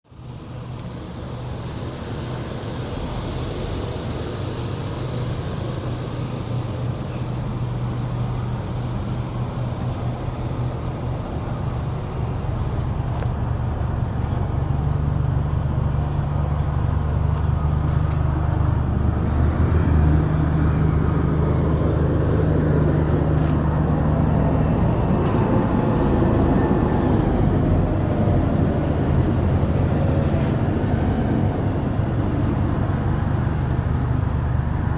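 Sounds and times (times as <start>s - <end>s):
road noise: 0.0s - 34.9s
vehicle engine running: 0.0s - 34.9s.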